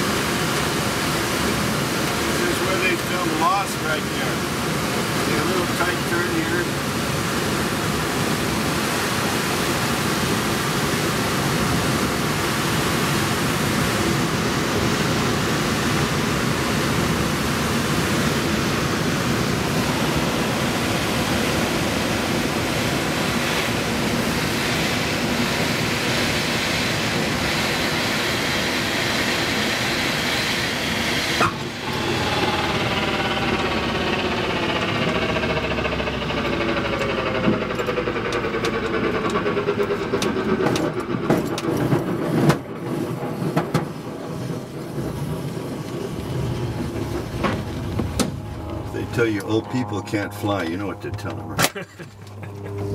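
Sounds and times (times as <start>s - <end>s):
glider rumbling on runway: 0.0s - 52.9s.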